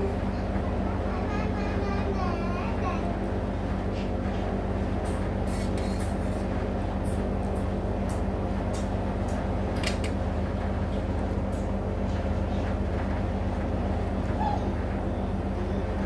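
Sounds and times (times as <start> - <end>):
fan motor humming: 0.0 - 16.0.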